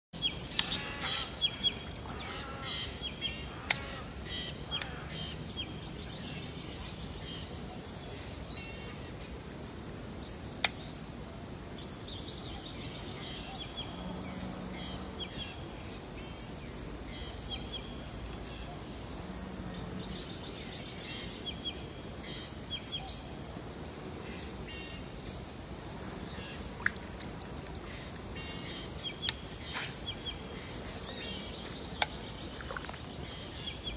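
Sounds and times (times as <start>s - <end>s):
insects high-pitched whine: 0.2s - 33.9s.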